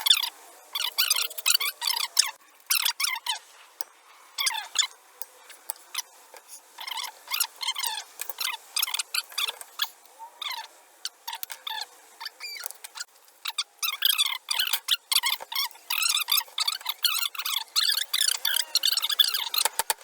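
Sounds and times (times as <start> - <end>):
sped-up squeaky chatter: 0.0 - 19.8.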